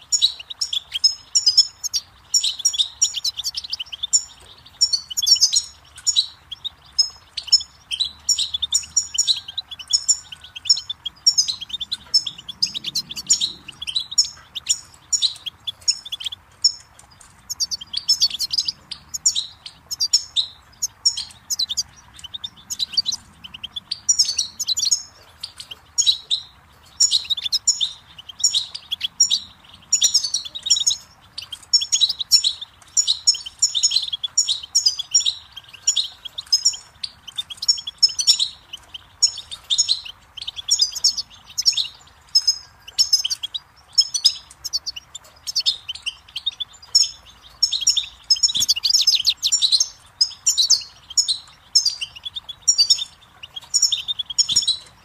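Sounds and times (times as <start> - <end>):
goldfinch singing: 0.0 - 55.0.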